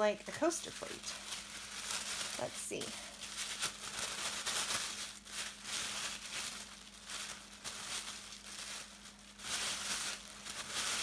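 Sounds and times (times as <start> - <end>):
tissue paper crinkling: 0.0 - 11.0.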